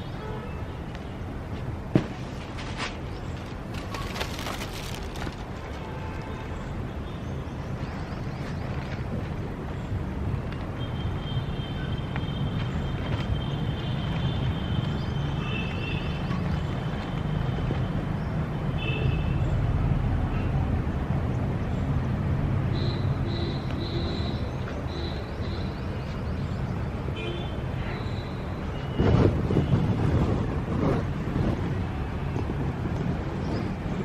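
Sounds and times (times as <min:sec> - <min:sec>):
low traffic rumble: 0:00.0 - 0:34.0.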